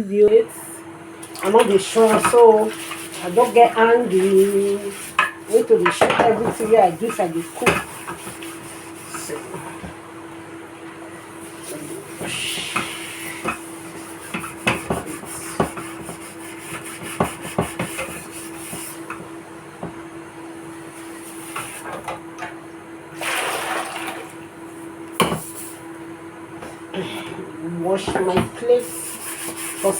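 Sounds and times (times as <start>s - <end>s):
tap water running: 1.2s - 25.9s.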